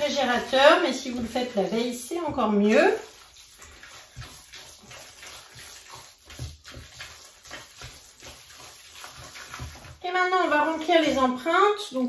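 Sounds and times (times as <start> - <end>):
spatula stirring wet mixture: 0.0 - 12.0.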